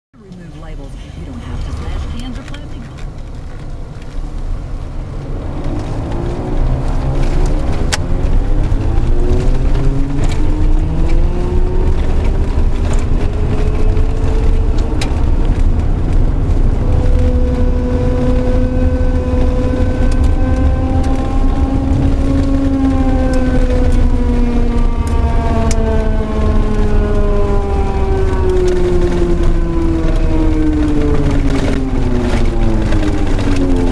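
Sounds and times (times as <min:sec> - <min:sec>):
vehicle low rumble: 0:00.1 - 0:33.9
whining tone: 0:05.3 - 0:33.9.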